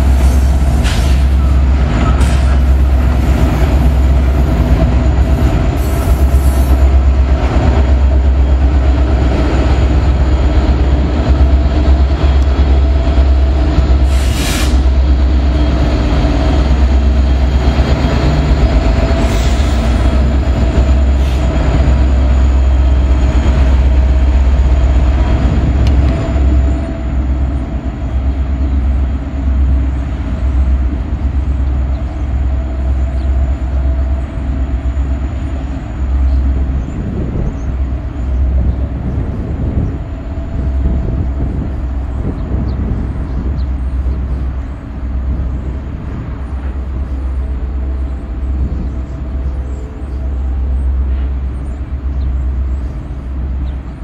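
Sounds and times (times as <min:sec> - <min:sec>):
deep diesel locomotive rumble: 0:00.0 - 0:54.0.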